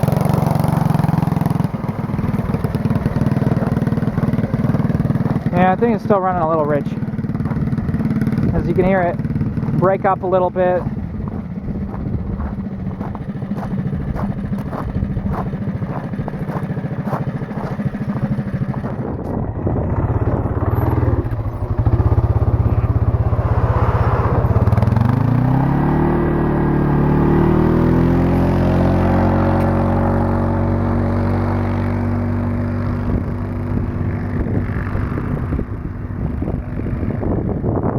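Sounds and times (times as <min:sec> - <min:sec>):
small engine running unevenly: 0:00.0 - 0:37.9.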